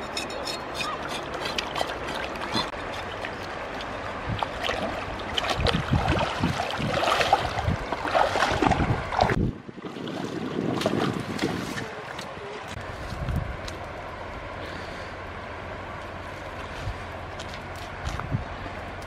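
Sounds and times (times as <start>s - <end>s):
river water splashing: 0.0s - 19.0s.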